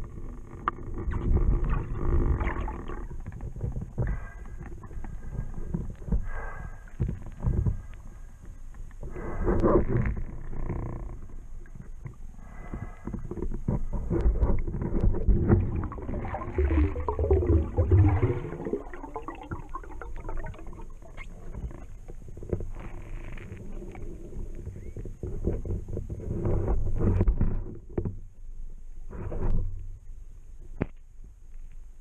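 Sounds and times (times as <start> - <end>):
muffled underwater rumbling: 0.0 - 30.7.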